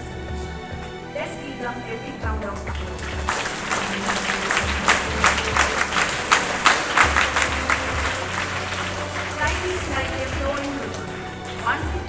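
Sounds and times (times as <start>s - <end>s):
children applauding: 2.3s - 12.0s.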